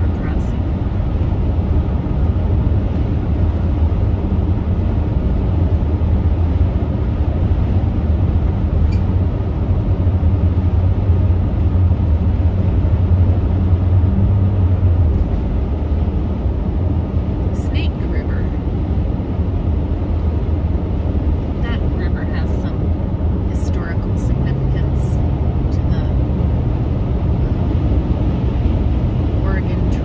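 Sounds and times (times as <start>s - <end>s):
road and engine noise inside vehicle: 0.0s - 30.0s.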